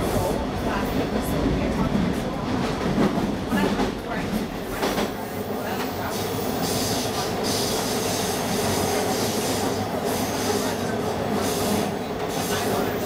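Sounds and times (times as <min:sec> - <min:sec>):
subway train rumbling in tunnel: 0:00.0 - 0:13.0.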